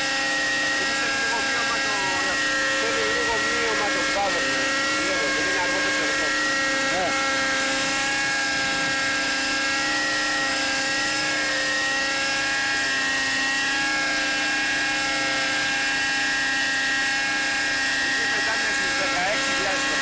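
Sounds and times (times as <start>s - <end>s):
model helicopter engine whining: 0.0s - 20.0s.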